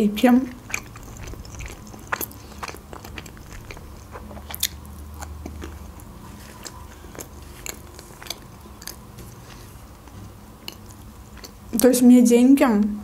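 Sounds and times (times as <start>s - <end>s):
chewing pizza: 0.4s - 12.0s.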